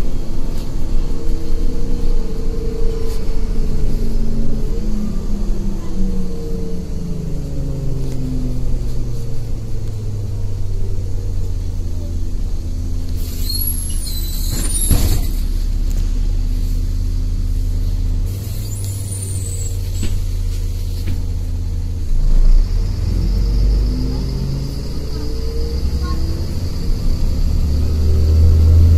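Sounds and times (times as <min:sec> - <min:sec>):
bus engine droning: 0:00.0 - 0:28.9.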